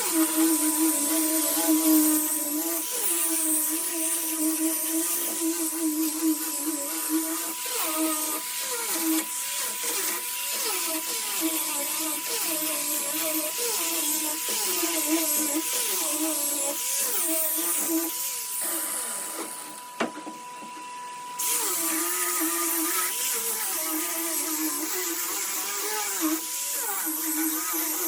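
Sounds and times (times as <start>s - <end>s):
orbital sander on wood: 0.0s - 28.0s.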